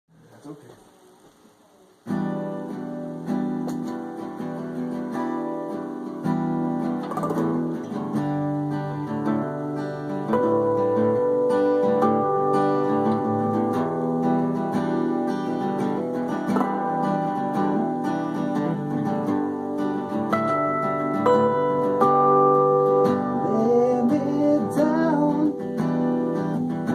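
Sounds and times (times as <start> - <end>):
plucked acoustic guitar: 2.1 - 26.9.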